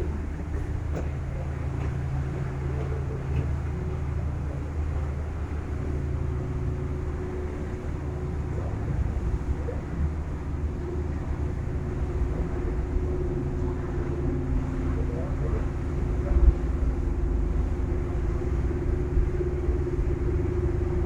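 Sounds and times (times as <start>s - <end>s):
ferry engines droning: 0.0s - 21.0s
hiss of wind and water: 0.0s - 21.0s.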